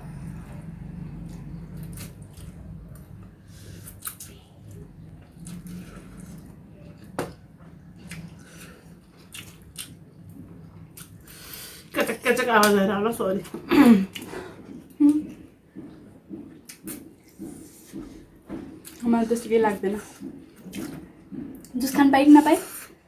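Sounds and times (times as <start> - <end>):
low steady hum: 0.0 - 22.4
chewing noodles: 0.2 - 11.8, 14.1 - 21.8.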